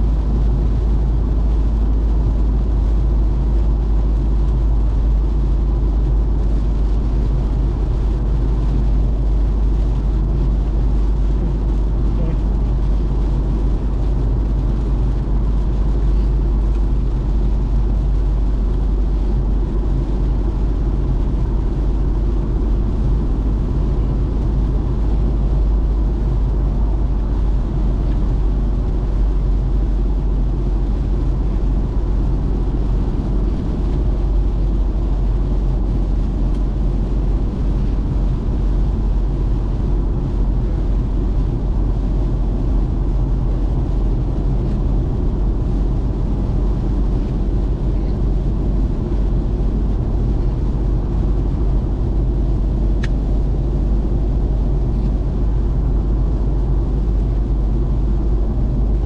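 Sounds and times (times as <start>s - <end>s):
car interior road rumble: 0.0s - 59.0s.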